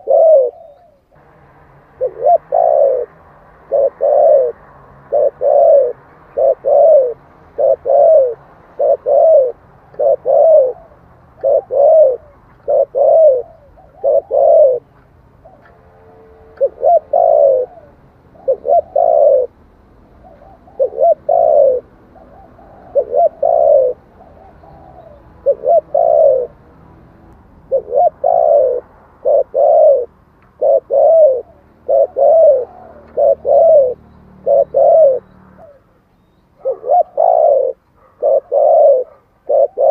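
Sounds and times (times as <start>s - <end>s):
dove cooing: 0.0s - 1.2s, 1.9s - 26.6s, 27.7s - 39.9s.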